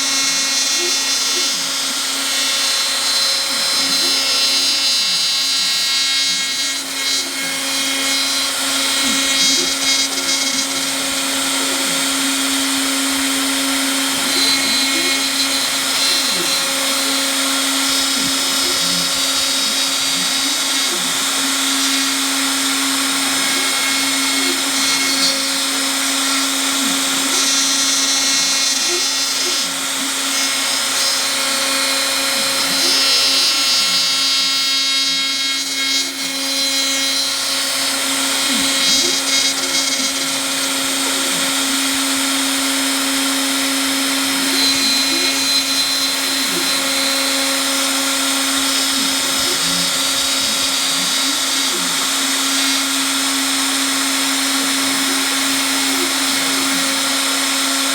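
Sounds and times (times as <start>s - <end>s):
axis motors whining: 0.0s - 57.9s
spindle motor whine: 0.0s - 57.9s.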